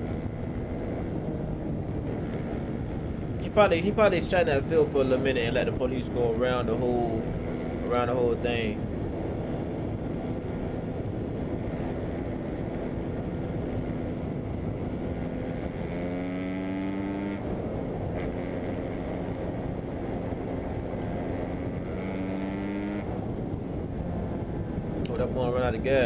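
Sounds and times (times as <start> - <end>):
dirt bike engine running: 0.0 - 26.0
heavy wind noise: 0.0 - 26.0.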